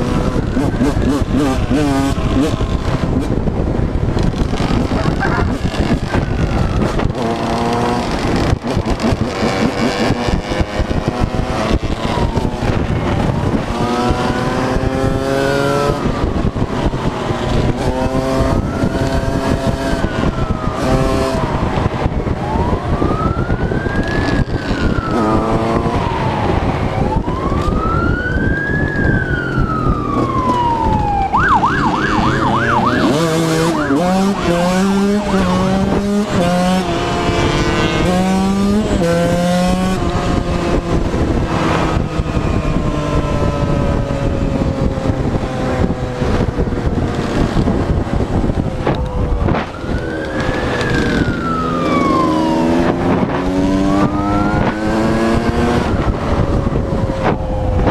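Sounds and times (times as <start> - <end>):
emergency vehicle siren wailing: 0.0 - 4.0, 4.8 - 57.9
vehicle engine accelerating: 0.0 - 57.9.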